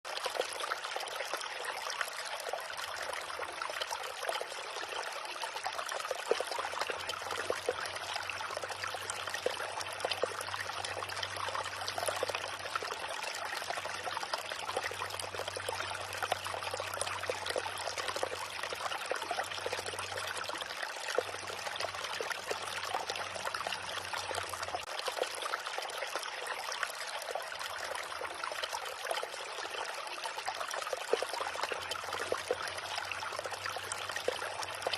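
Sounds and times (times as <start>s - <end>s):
river water trickling and splashing: 0.1s - 34.9s.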